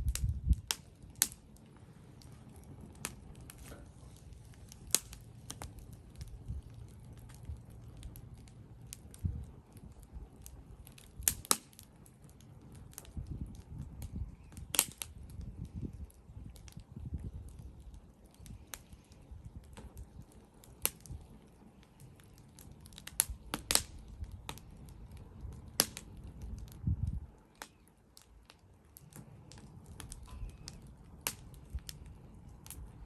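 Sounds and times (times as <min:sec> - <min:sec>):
sharp pops from fire: 0:00.0 - 0:33.0
wood fire crackling: 0:00.0 - 0:33.0.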